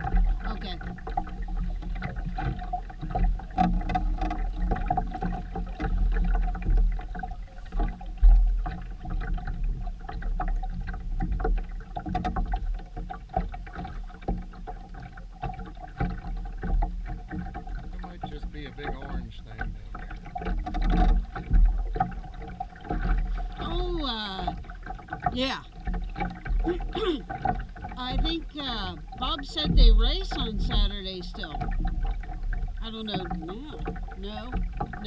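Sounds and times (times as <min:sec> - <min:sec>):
steady hum: 0:00.0 - 0:35.0
water around boat hull: 0:00.0 - 0:35.0.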